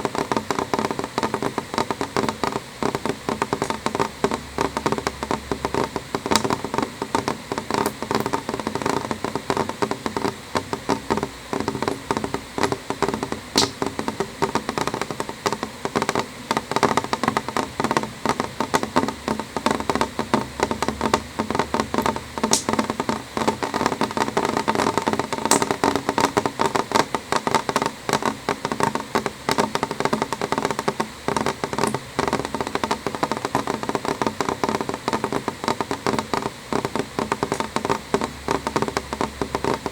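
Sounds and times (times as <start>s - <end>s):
rain on window glass: 0.0s - 39.9s.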